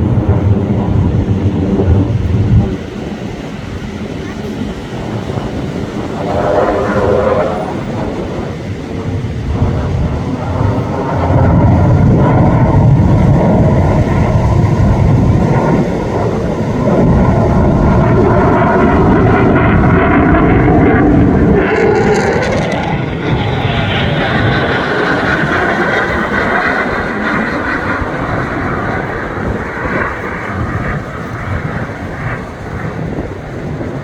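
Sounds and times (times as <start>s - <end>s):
jet engine roaring: 0.0s - 34.0s.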